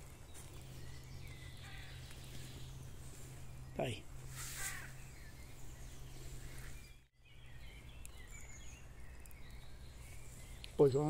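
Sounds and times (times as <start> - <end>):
distant bird chirps: 0.0 - 11.0.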